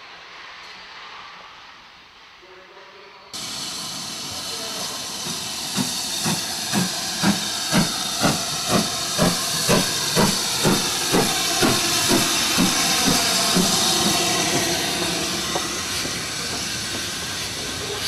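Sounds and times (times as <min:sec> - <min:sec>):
steam hissing: 0:00.0 - 0:18.0
steam locomotive exhaust chuffs: 0:03.4 - 0:18.0.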